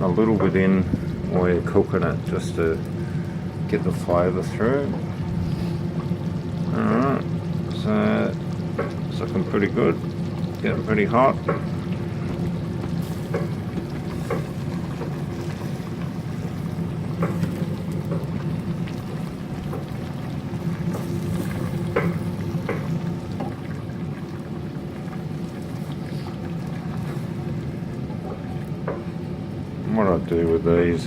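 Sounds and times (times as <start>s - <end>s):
curry cooking in a pan: 0.0s - 31.0s
steady low hum: 0.0s - 31.0s.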